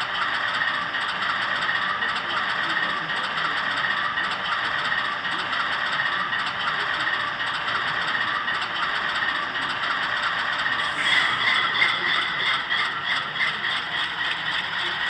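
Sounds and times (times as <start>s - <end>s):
model train running: 0.0s - 15.0s
wheels rattling on track: 0.0s - 15.0s.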